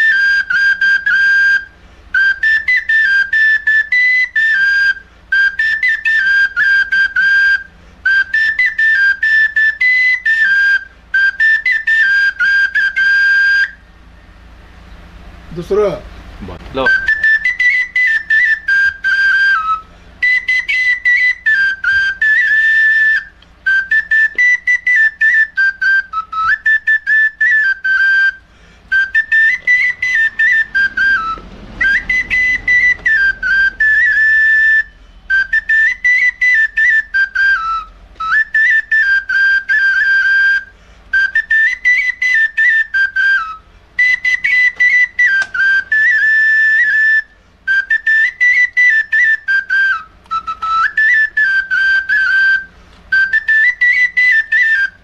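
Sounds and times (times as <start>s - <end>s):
plastic flute playing high melody: 0.0s - 14.2s, 16.7s - 55.0s.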